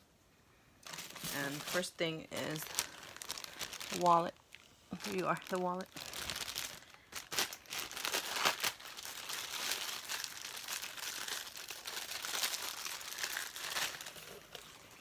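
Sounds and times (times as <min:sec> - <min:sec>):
packaging crinkling and rustling: 0:00.8 - 0:15.0.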